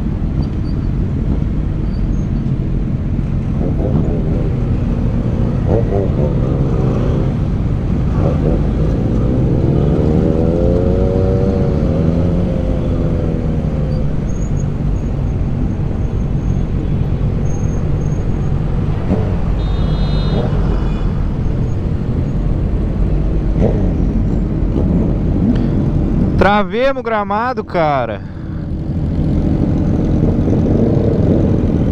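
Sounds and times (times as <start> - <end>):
motorcycle engine and road noise: 0.0 - 31.9.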